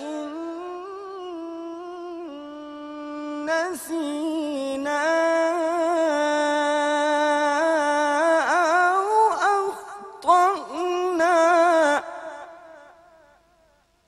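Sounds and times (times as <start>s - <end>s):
man reciting melodically: 0.0s - 13.8s.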